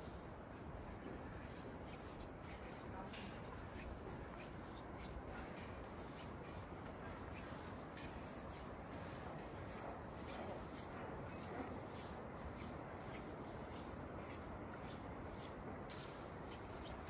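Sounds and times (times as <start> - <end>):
low background noise: 0.0 - 17.0
footsteps on metal grating: 1.0 - 17.0.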